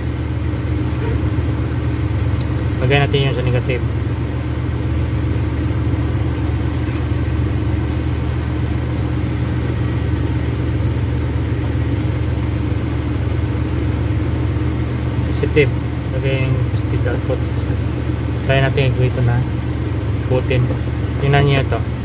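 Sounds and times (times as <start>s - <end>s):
low machine drone: 0.0s - 22.0s.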